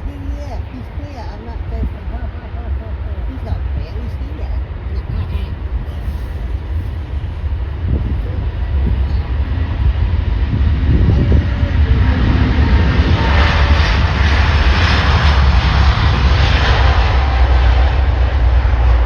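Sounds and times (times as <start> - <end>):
jet airliner engines rushing: 0.0 - 19.0.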